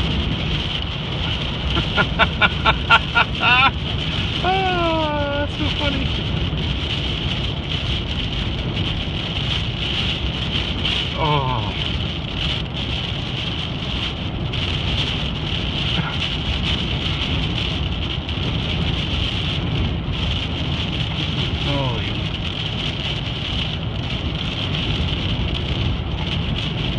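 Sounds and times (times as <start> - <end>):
car driving on wet road: 0.0 - 26.9
heavy rain hitting a car: 0.0 - 26.9.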